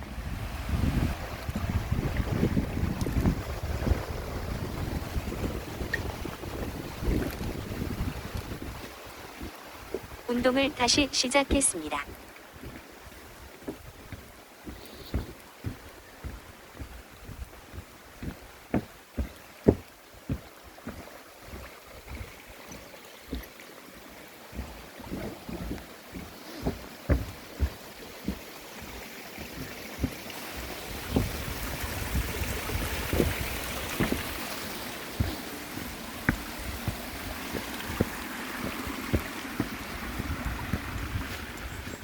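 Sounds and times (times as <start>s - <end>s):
mountain stream rushing: 0.0s - 42.0s
footsteps on a trail: 0.8s - 42.0s.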